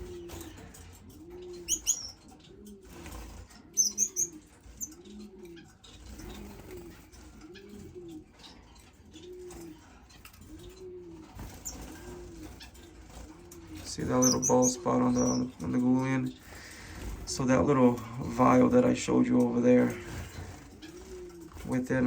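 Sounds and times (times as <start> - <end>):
dove cooing: 0.0 - 22.0
finches chirping: 0.0 - 22.0.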